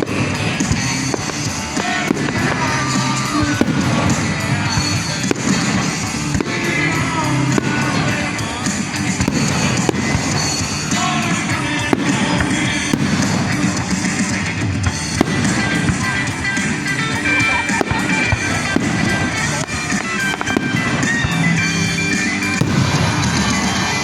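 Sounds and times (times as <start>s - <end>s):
fireworks bangs and crackles: 0.0s - 24.0s
recorded music with singing: 0.0s - 24.0s.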